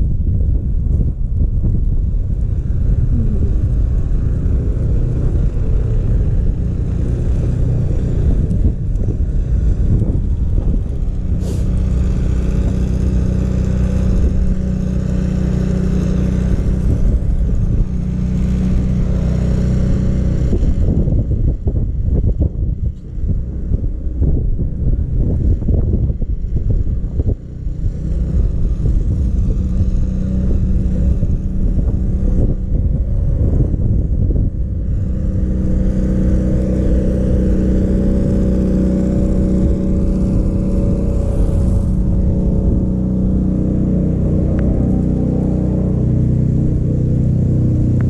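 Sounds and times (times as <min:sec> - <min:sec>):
engine running: 0:00.0 - 0:48.0
wind buffeting microphone: 0:00.0 - 0:48.0.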